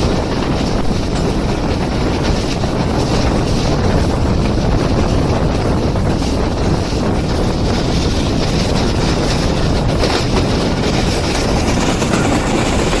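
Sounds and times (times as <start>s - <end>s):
train passing at speed: 0.0s - 13.0s
wind buffeting microphone: 0.0s - 13.0s.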